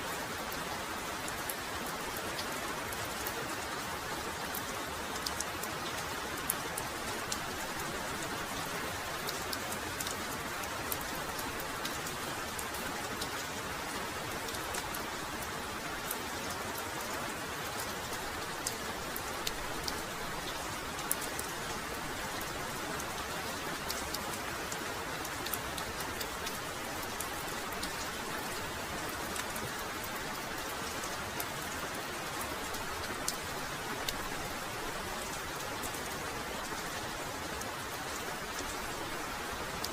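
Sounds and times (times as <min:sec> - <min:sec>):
heavy rainfall: 0:00.0 - 0:39.9
rain drop ticks: 0:04.4 - 0:39.9.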